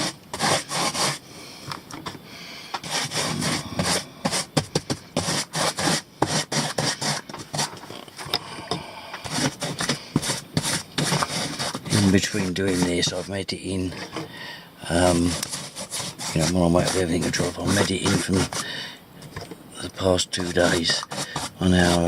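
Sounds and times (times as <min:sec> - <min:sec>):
paintbrush scratching on cardboard: 0:00.0 - 0:01.2, 0:02.8 - 0:07.8, 0:09.2 - 0:14.2, 0:14.9 - 0:22.0.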